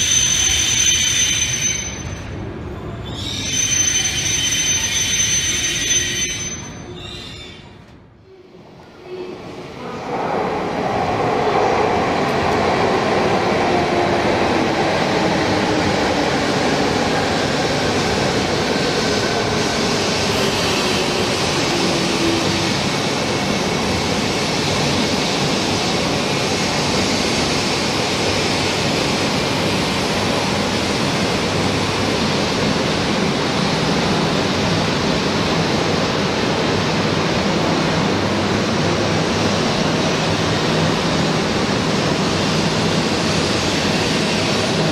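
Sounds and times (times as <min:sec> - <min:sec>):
train wheels rumbling on rail: 0:08.7 - 0:44.9.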